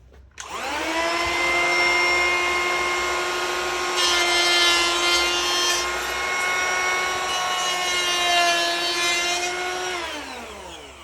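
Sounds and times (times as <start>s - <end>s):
hand planer whining: 0.4s - 11.0s
planer blades rasping wood: 0.4s - 11.0s.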